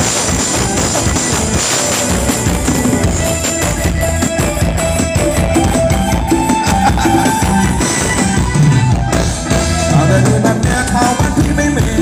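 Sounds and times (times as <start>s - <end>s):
drum kit beat: 0.0s - 12.0s
live band dance music: 0.0s - 12.0s
melody line: 0.8s - 10.9s.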